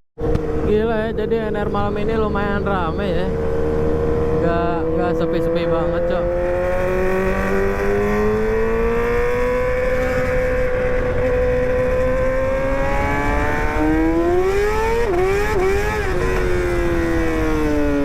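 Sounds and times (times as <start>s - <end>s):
motorcycle engine revving: 0.2s - 18.0s.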